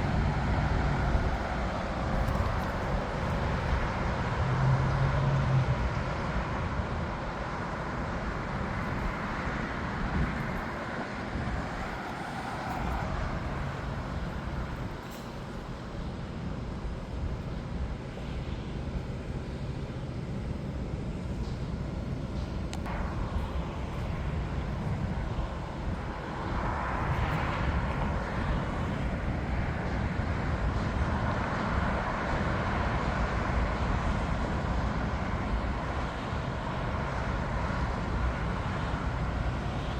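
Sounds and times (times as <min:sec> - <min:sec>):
jet airliner engine rushing: 0:00.0 - 0:39.9.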